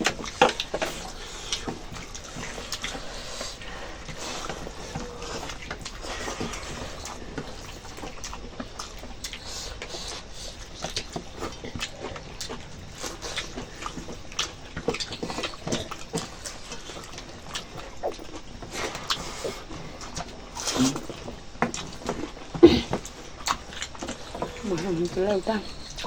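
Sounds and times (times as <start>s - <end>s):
chewing and lip smacks: 0.0s - 26.0s.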